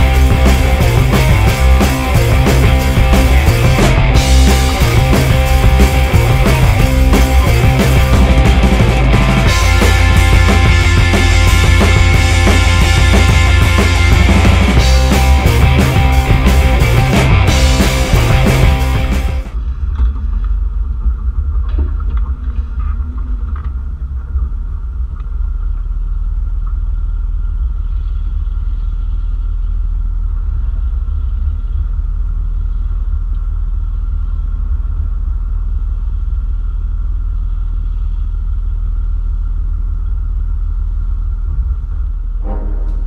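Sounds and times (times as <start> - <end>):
engine rumbling at low revs: 0.0 - 43.0.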